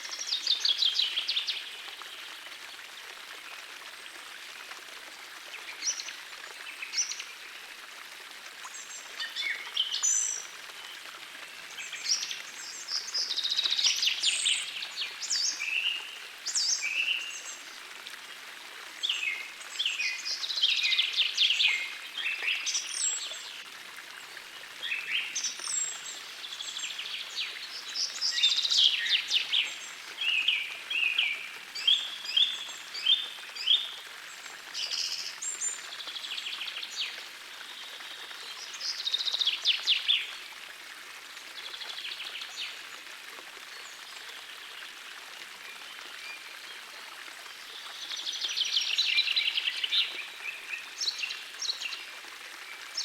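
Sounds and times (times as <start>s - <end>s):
forest stream rushing: 0.0s - 53.0s.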